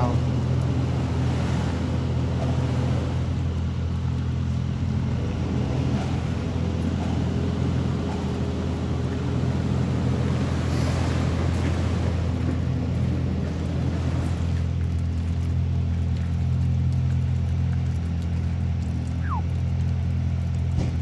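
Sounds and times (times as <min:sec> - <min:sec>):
machine engine droning: 0:00.0 - 0:21.0.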